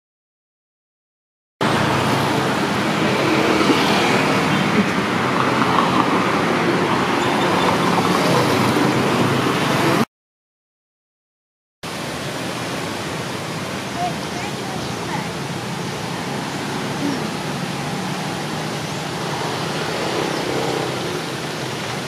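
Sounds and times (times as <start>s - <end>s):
even rushing noise: 1.6s - 10.0s, 11.9s - 22.0s
vehicle engine and road noise: 1.6s - 10.0s, 11.9s - 22.0s.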